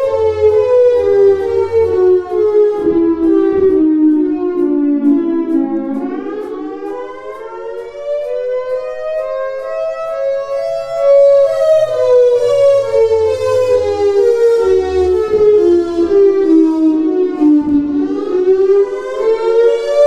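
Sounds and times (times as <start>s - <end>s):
warning siren wailing: 0.0s - 20.0s.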